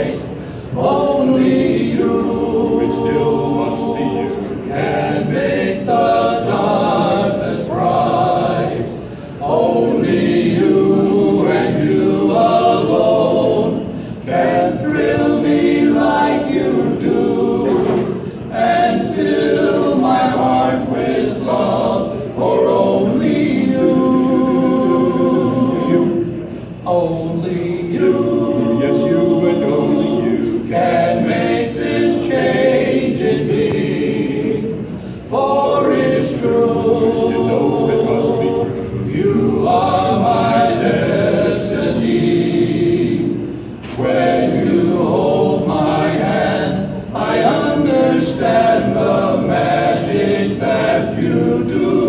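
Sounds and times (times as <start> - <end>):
male quartet singing in harmony: 0.0 - 52.0.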